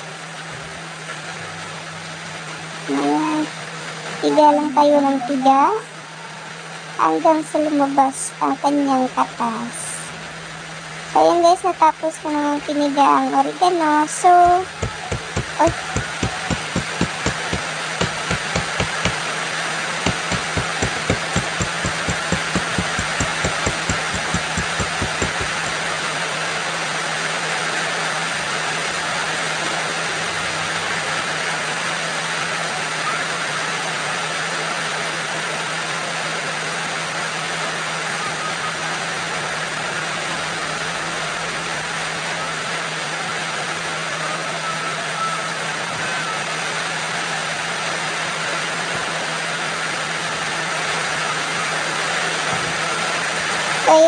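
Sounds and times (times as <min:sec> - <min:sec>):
steady rain falling: 0:00.0 - 0:13.6, 0:14.3 - 0:44.9.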